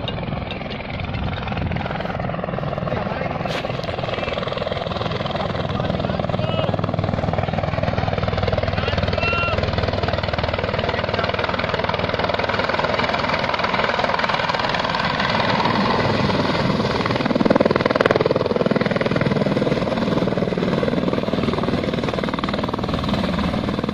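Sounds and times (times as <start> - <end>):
helicopter rotor chop: 0.0 - 23.9.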